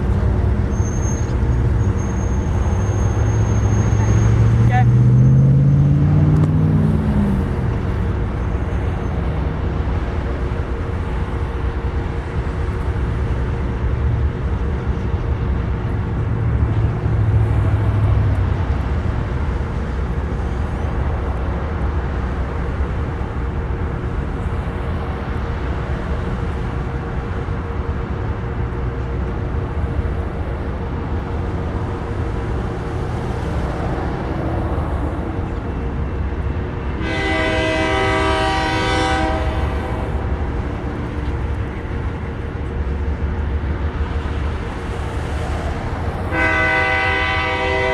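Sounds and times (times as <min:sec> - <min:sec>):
freight train rumbling: 0:00.0 - 0:47.9.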